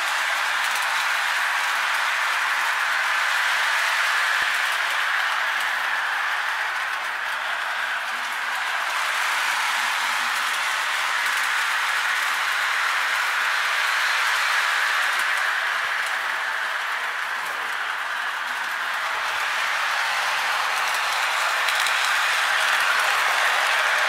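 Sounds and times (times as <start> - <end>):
toy train running on track: 0.0 - 24.0.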